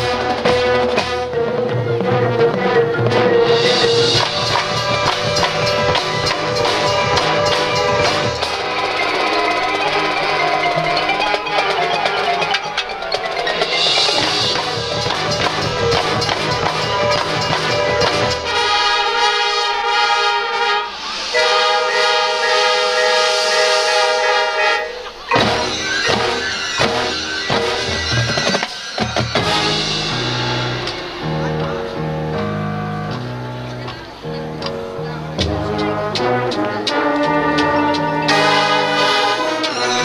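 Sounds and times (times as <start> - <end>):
marching band playing: 0.0 - 40.0
sharp percussion hits: 0.0 - 40.0.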